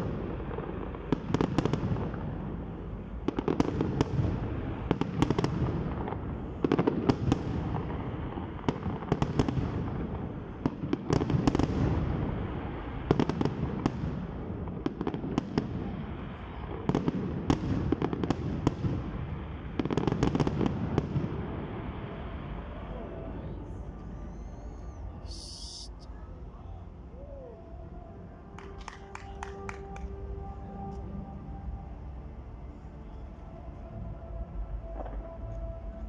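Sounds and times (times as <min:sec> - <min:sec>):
fireworks bursting and crackling: 0:00.0 - 0:26.1, 0:28.4 - 0:32.0.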